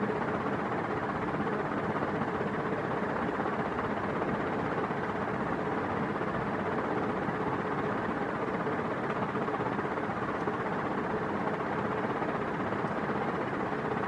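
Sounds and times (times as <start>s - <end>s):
ceiling fan air rush: 0.0s - 14.0s
faint motor hum: 0.0s - 14.0s.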